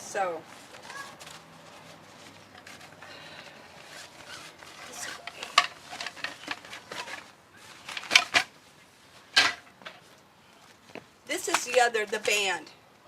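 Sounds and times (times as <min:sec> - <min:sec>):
rustling of exercise gear: 0:00.0 - 0:12.6.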